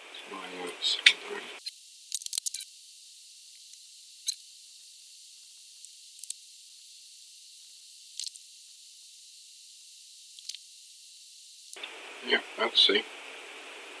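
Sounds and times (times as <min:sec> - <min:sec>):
faint steady hiss: 0:00.0 - 0:14.0
soldering iron crackling sizzles: 0:00.0 - 0:14.0.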